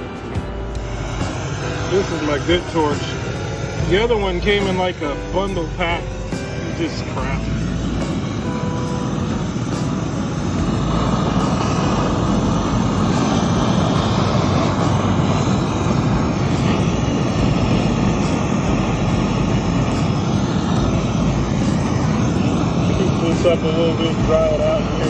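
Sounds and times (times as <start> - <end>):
gas torch flame roaring: 0.0 - 25.0.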